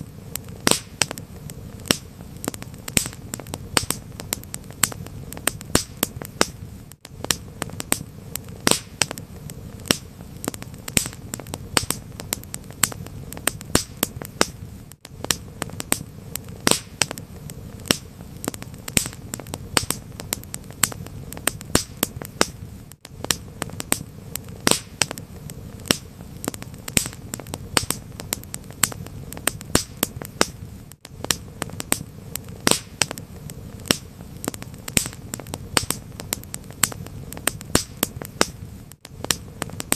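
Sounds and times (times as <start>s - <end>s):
steady low rumble: 0.0s - 39.9s
wood fire crackling: 0.0s - 39.9s.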